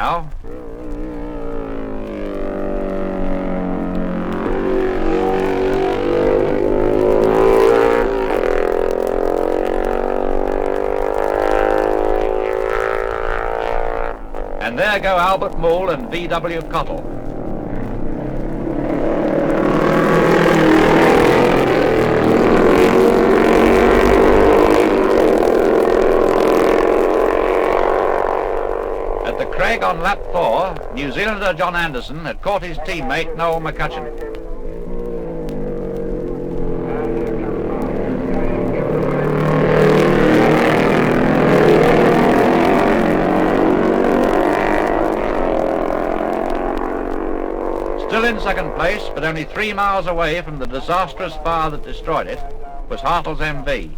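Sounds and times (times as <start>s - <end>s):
racing motorcycles passing: 0.0s - 53.9s.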